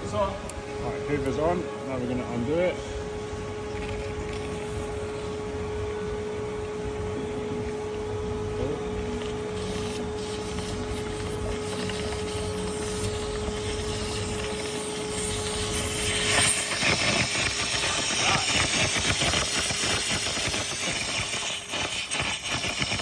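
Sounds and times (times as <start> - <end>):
vacuum cleaner whining: 0.0 - 23.0.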